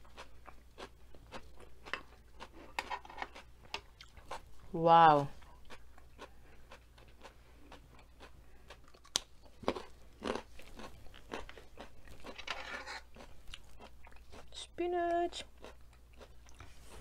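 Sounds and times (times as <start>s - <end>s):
person chewing crunchy vegetables: 0.0s - 17.0s.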